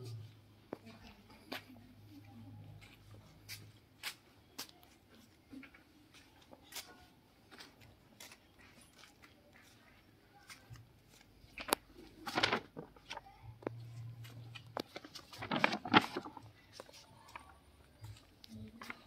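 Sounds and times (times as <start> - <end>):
faint rustling and handling: 0.0 - 19.0.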